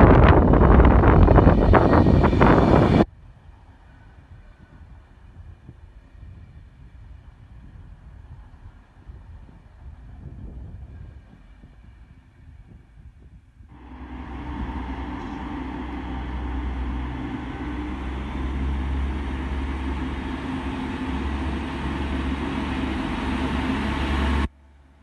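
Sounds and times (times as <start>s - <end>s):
diesel train engine drone: 0.0s - 12.8s, 13.7s - 25.0s.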